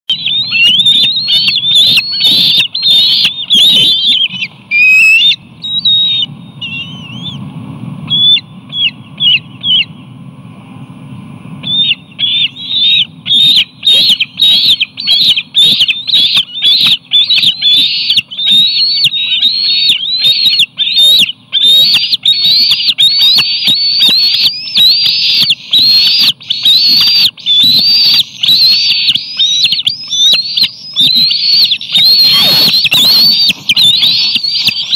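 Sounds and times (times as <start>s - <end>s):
eaglets shrill begging calls: 0.1s - 7.5s, 8.1s - 10.1s, 11.6s - 34.9s
low steady rumble: 0.1s - 34.9s.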